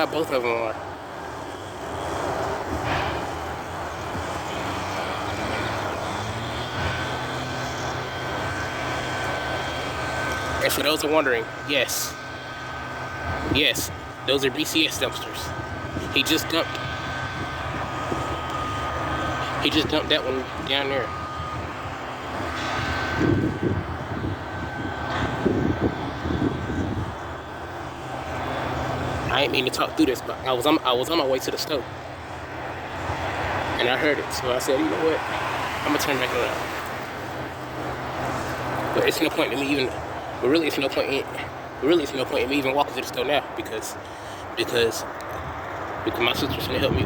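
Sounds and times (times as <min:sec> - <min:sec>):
faint steady whine: 0:00.0 - 0:47.0
truck diesel engine running: 0:00.0 - 0:47.0.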